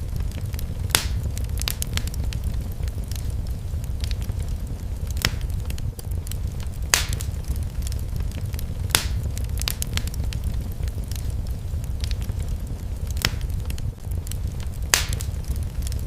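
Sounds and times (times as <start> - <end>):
low rumble of flames: 0.0 - 16.0
sharp pops of burning wood: 0.0 - 16.0
wood fire crackling: 0.0 - 16.0.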